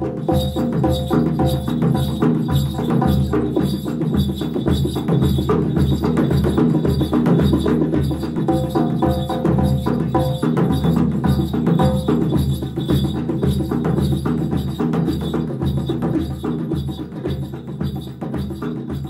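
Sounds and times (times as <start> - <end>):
background music with drum beat: 0.0 - 19.0.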